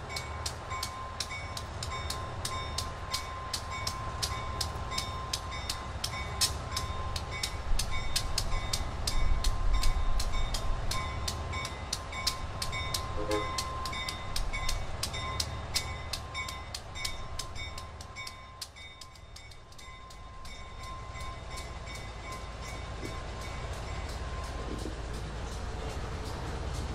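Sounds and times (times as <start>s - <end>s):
diesel locomotive rumble: 0.0s - 26.9s.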